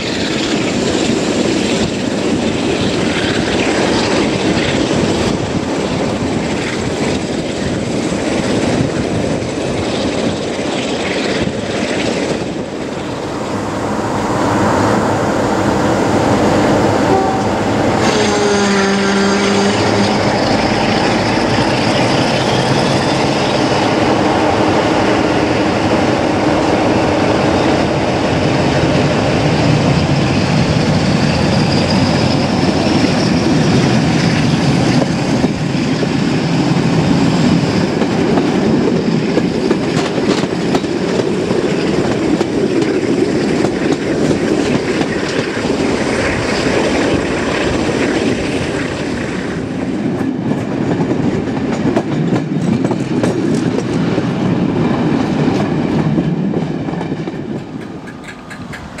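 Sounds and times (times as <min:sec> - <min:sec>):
diesel locomotive engine: 0:00.0 - 0:59.0
rushing air: 0:00.0 - 0:59.0
wheels on rails: 0:00.0 - 0:59.0.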